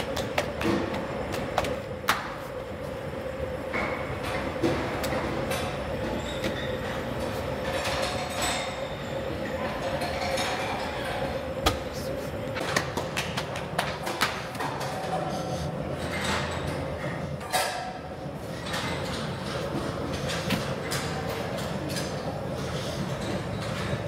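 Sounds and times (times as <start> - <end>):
constant hum: 0.0 - 24.0
rushing kitchen noise: 0.0 - 24.0.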